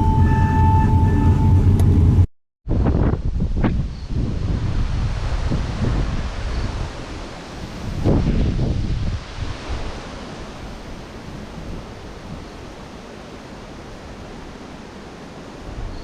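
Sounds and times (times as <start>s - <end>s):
gusty wind buffeting microphone: 0.0s - 14.8s.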